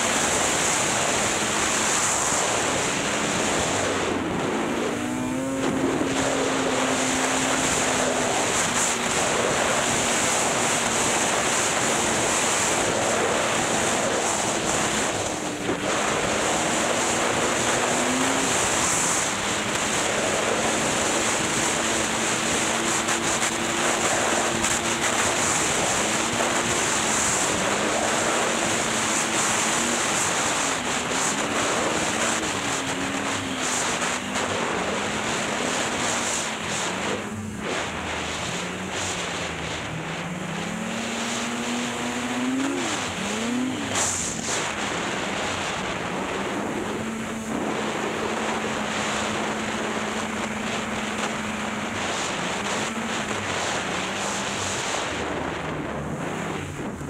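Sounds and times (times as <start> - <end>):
snowmobile engine droning: 0.0 - 57.0
wind rush on microphone: 0.0 - 57.0.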